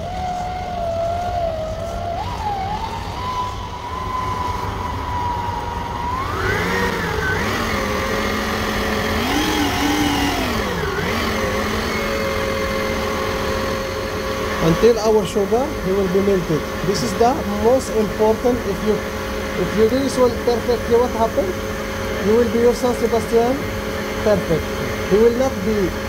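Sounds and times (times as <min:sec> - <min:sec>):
stand mixer motor whining: 0:00.0 - 0:26.0.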